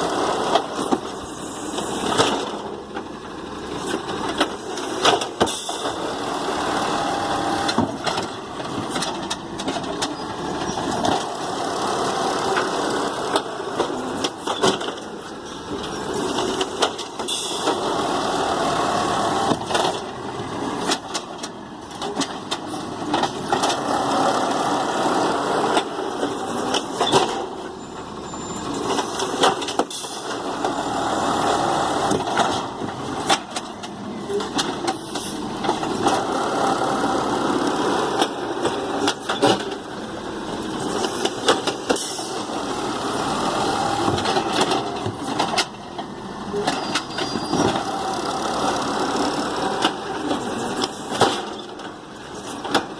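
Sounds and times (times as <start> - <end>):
garbage truck engine revving: 0.0 - 52.9.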